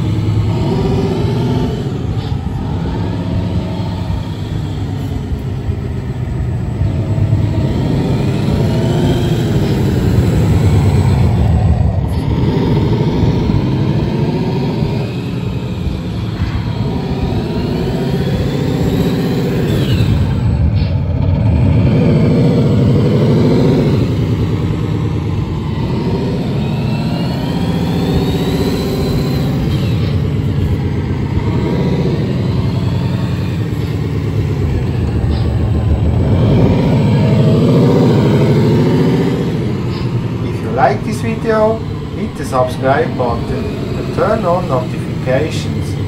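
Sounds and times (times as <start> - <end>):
simulated truck engine revving: 0.0 - 46.0.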